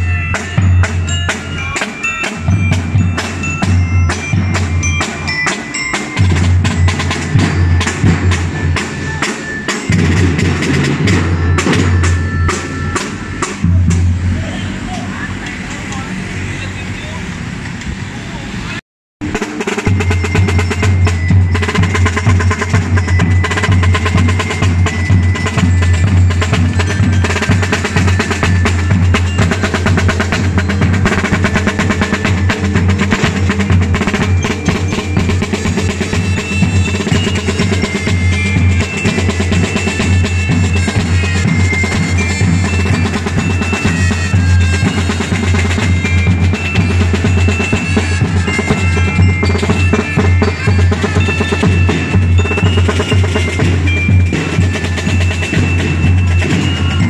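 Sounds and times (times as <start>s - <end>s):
glockenspiel melody: 0.0s - 14.2s, 19.4s - 57.0s
snare drum rolls: 5.5s - 14.2s, 19.2s - 57.0s.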